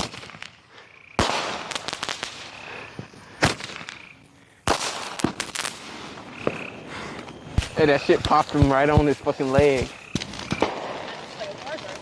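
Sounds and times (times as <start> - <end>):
crackling firework pops: 0.0 - 0.6, 1.2 - 12.0
firework bangs: 0.0 - 12.0.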